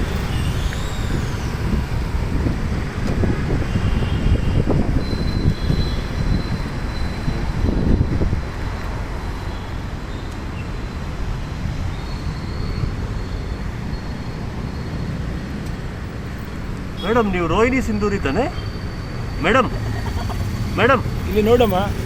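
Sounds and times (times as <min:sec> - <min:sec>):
low rumble of road traffic: 0:00.0 - 0:22.0.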